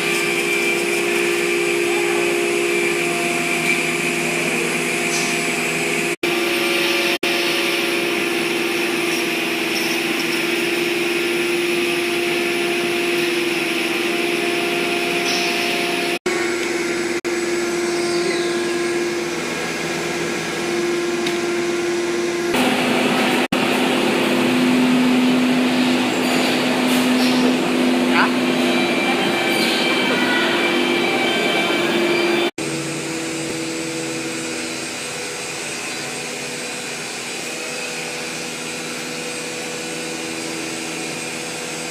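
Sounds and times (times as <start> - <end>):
router machine hum and whine: 0.0 - 41.9.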